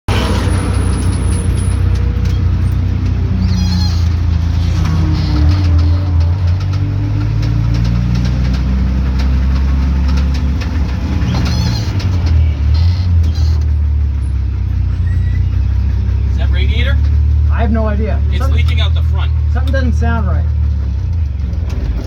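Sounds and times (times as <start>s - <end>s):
car engine knocking: 4.0s - 22.0s.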